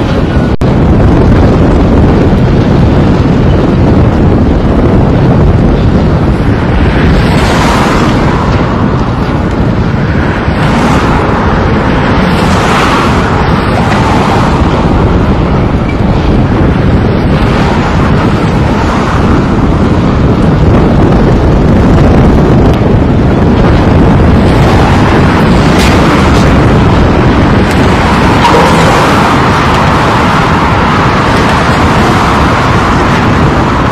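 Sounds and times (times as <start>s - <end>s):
excavator diesel engine rumbling: 0.0s - 33.9s
wind buffeting microphone: 0.0s - 33.9s.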